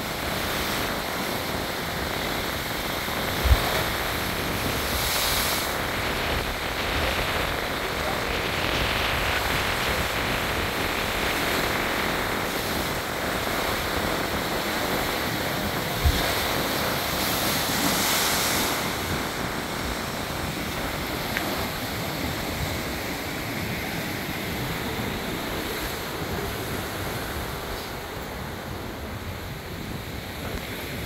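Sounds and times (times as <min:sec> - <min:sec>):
heavy surf surging: 0:00.0 - 0:31.0
wind on microphone: 0:00.0 - 0:31.0.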